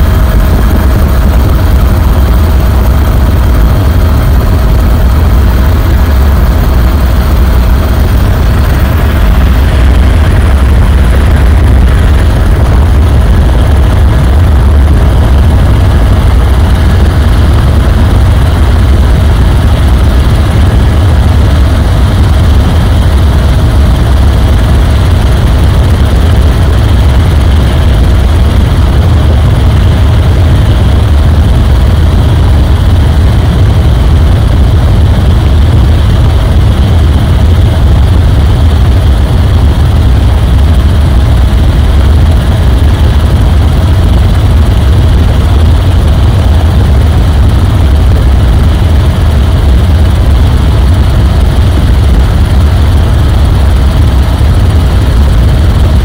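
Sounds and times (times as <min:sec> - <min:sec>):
faint whine: 0:00.0 - 0:56.0
helicopter cabin drone: 0:00.0 - 0:56.0.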